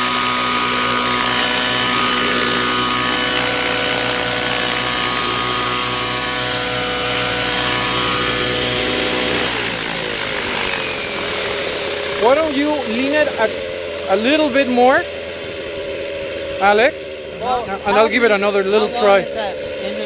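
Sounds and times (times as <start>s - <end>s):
model helicopter engine whining: 0.0s - 20.0s.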